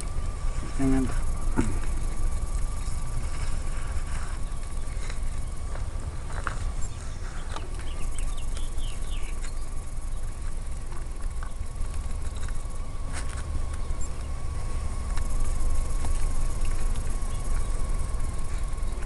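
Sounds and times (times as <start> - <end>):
low rumble: 0.0 - 19.0
small bird chirping: 0.0 - 19.0
thin steady high tone: 0.0 - 19.0.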